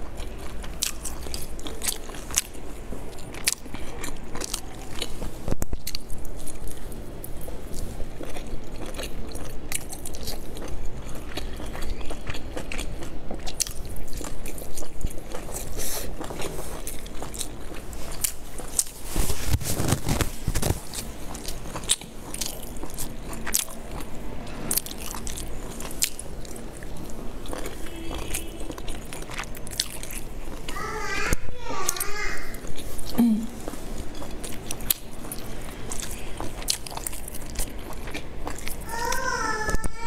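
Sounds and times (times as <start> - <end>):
chewing with wet mouth clicks: 0.0 - 19.0, 20.1 - 30.8, 32.6 - 38.9.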